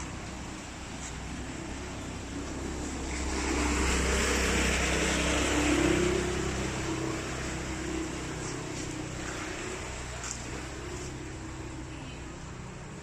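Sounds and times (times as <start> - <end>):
vehicle engine hum passing: 0.0 - 13.0.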